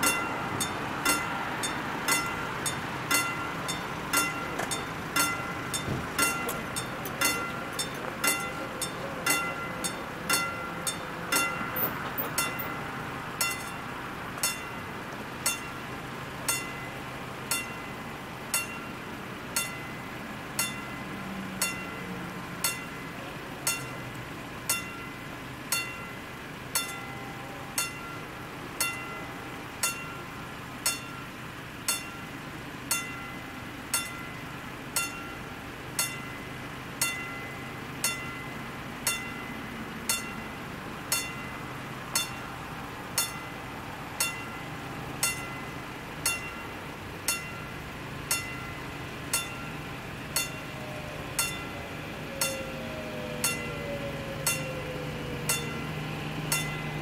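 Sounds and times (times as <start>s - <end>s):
level crossing warning bell: 0.0s - 57.0s.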